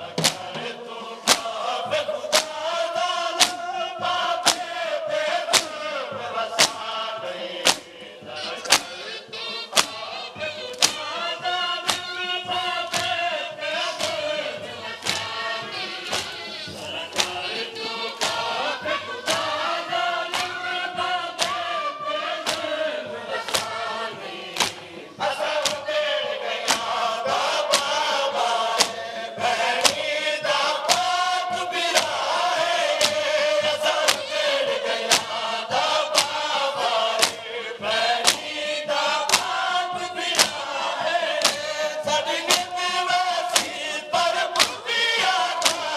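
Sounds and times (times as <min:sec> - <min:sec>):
men chanting together: 0:00.0 - 0:45.9
chest-beating slaps: 0:00.2 - 0:01.6, 0:02.3 - 0:02.8, 0:03.4 - 0:03.7, 0:04.4 - 0:04.8, 0:05.5 - 0:05.8, 0:06.6 - 0:11.2, 0:11.8 - 0:13.2, 0:13.9 - 0:21.8, 0:22.4 - 0:27.1, 0:27.7 - 0:28.1, 0:28.7 - 0:30.2, 0:30.8 - 0:38.7, 0:39.3 - 0:45.9.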